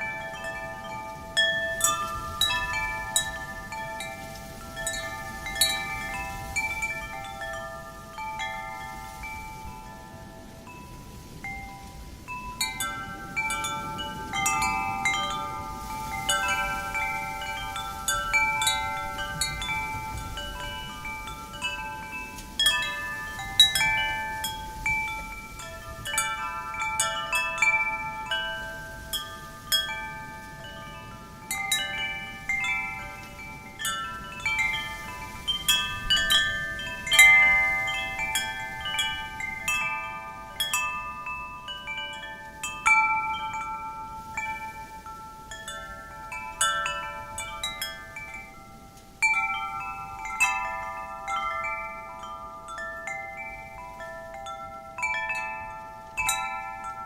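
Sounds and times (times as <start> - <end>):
faint wind hiss: 0.0 - 57.0
metal wind chimes ringing: 0.0 - 57.0.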